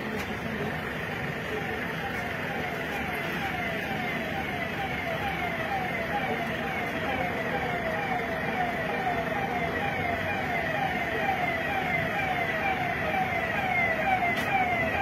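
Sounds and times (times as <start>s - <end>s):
police siren wailing: 0.0s - 15.0s.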